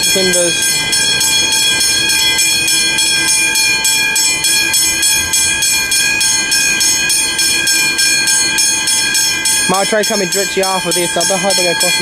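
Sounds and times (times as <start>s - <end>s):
level crossing bell ringing: 0.0s - 12.0s.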